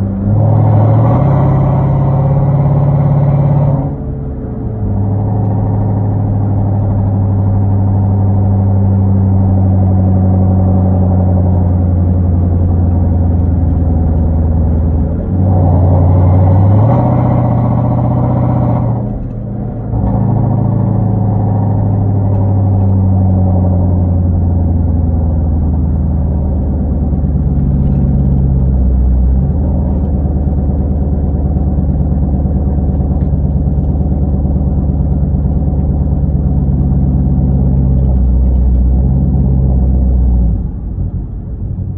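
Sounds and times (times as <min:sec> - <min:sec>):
car engine driving: 0:00.0 - 0:41.9.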